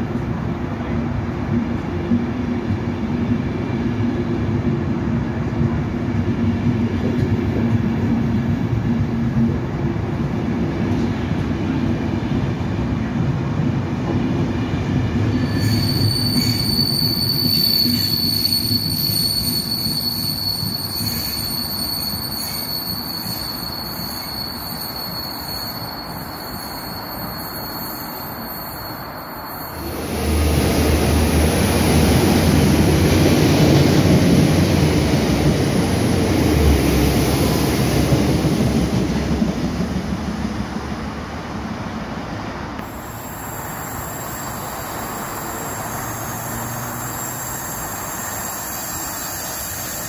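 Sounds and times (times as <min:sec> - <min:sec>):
high steady train whine: 0:00.0 - 0:50.0.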